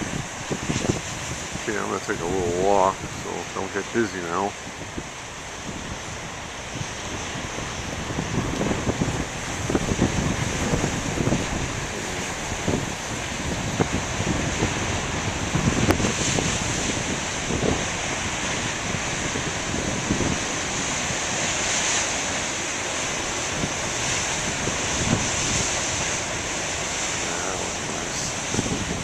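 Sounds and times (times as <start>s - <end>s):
surf breaking on shore: 0.0s - 29.0s
wind buffeting microphone: 0.0s - 29.0s.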